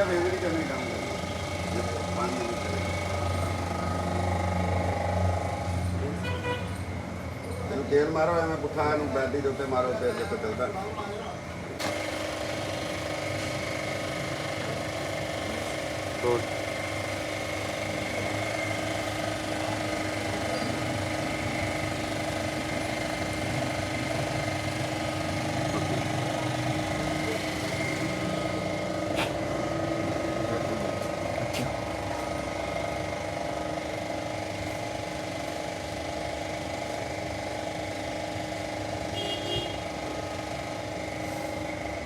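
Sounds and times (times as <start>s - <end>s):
motor running with fast rattle: 0.0s - 42.0s.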